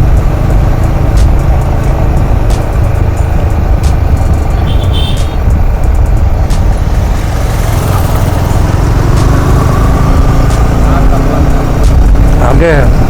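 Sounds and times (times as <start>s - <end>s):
motorcycle engine: 0.0s - 13.0s
wind buffeting: 0.0s - 13.0s.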